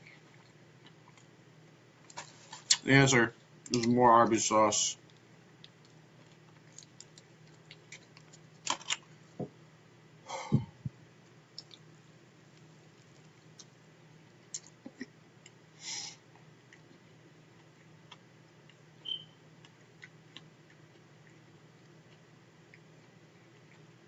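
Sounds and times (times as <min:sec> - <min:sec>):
eating and handling noises: 0:00.0 - 0:09.7, 0:10.6 - 0:24.0
faint steady hum: 0:00.0 - 0:24.0.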